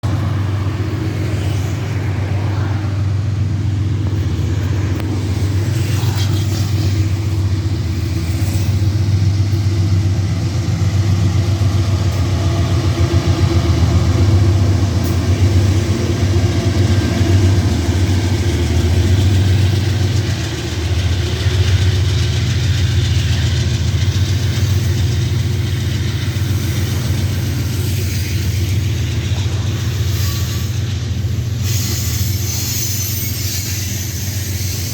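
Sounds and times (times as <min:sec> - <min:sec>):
locomotive low drone: 0:00.0 - 0:34.9
train rolling noise: 0:00.0 - 0:34.9.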